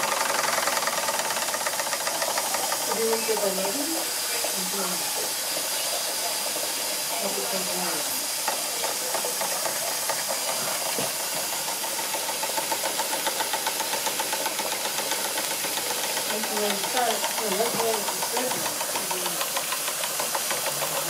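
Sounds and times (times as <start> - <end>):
steam engine chuffing: 0.0 - 21.0
steam hiss: 0.0 - 21.0.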